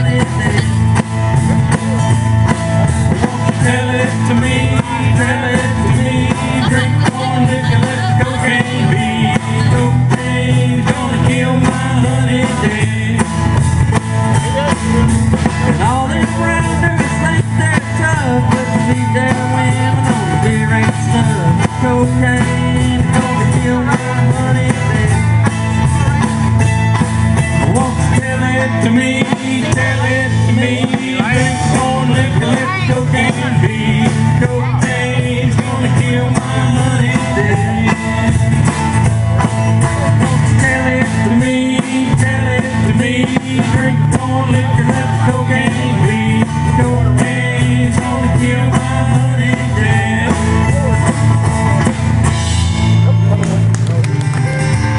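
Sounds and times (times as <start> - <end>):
live country-rock band: 0.0 - 54.9.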